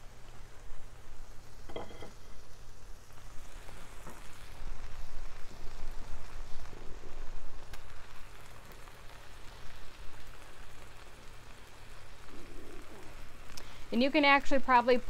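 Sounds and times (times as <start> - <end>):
burgers sizzling on a griddle: 0.0 - 15.0.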